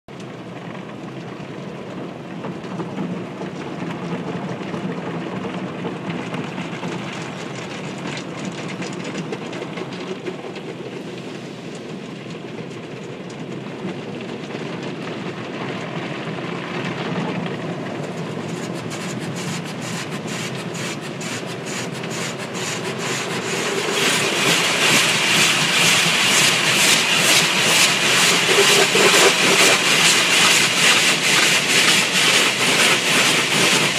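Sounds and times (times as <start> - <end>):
car wash machinery and spray: 0.1 - 33.9.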